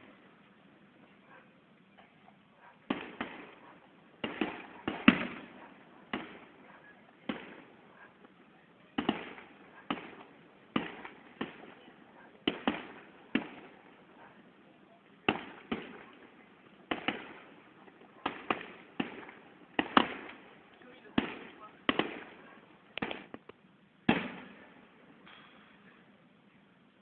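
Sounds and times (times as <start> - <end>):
distant fireworks bangs with echo: 2.8 - 23.4, 24.0 - 25.3.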